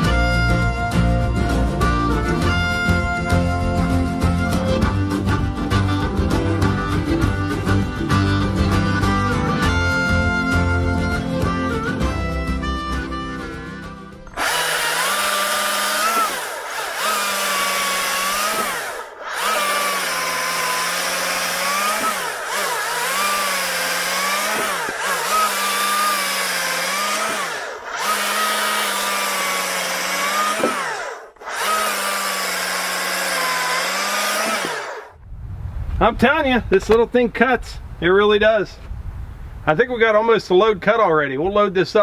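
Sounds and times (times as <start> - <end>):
battery chainsaw cutting logs: 0.0 - 35.2.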